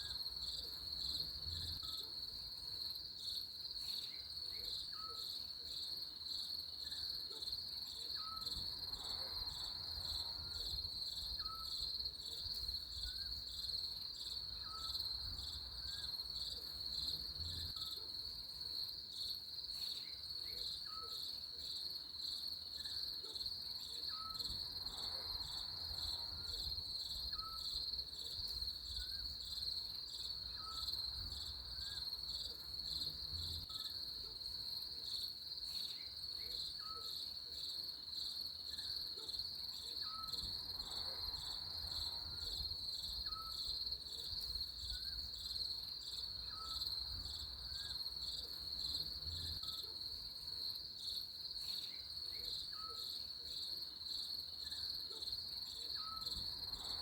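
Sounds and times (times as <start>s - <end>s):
crickets chirping trill: 0.0s - 57.0s.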